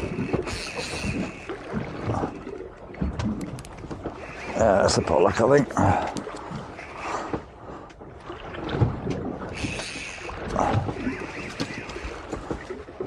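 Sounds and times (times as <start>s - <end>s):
sea swell: 0.0s - 13.0s.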